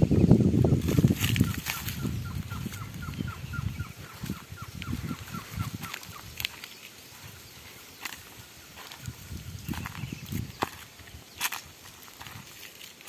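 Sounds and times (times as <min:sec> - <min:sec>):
bird calling: 0:00.0 - 0:12.8.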